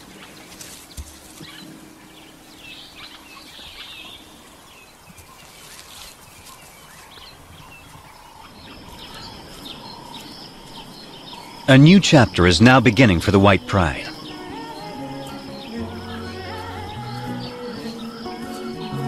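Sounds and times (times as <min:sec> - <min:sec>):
faint steady hiss: 0:00.0 - 0:19.0
insect trill: 0:00.0 - 0:19.0.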